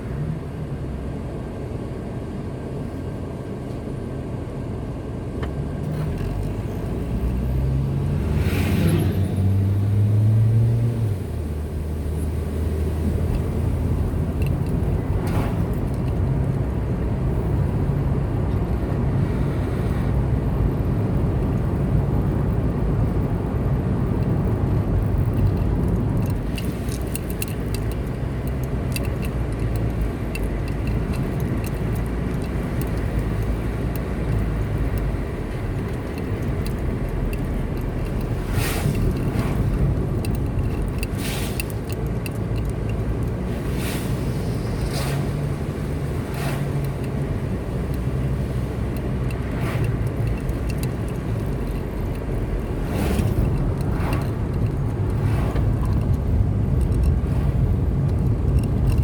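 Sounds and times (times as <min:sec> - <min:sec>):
car engine hum: 0:00.0 - 0:59.0
road rumble: 0:00.0 - 0:59.0.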